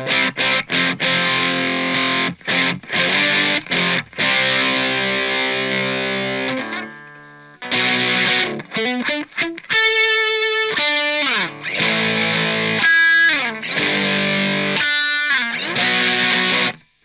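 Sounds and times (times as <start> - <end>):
overdriven electric guitar: 0.0 - 17.0.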